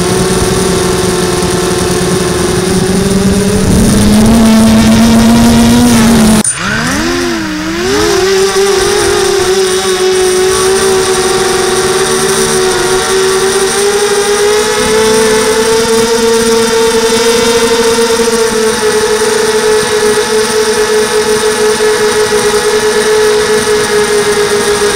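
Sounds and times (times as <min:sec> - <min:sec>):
model airplane motor droning: 0:00.0 - 0:24.9.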